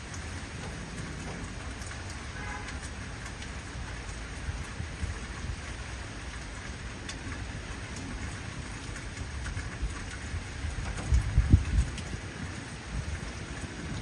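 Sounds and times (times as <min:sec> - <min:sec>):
continuous low rumble: 0:00.0 - 0:14.0
raindrops ticking: 0:00.0 - 0:14.0.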